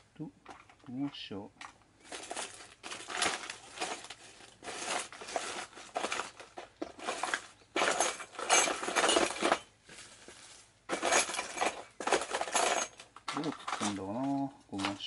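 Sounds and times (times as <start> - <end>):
small hardware parts clattering: 0.4 - 15.0.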